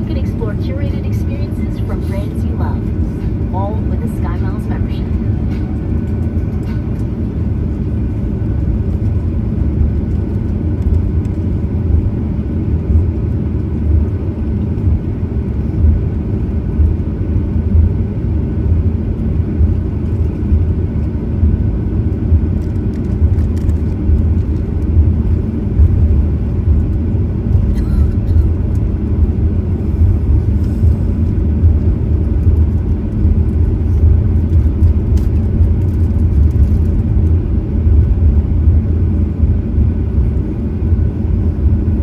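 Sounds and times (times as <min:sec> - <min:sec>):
jet engine cabin rumble: 0:00.0 - 0:42.0.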